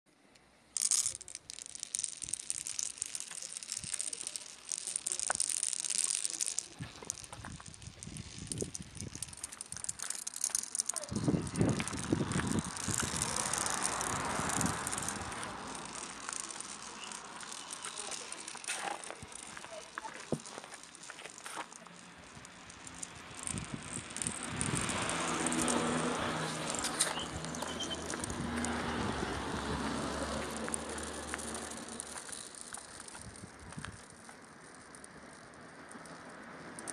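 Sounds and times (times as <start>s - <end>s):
marbles rattling down stone grooves: 0.3s - 36.9s.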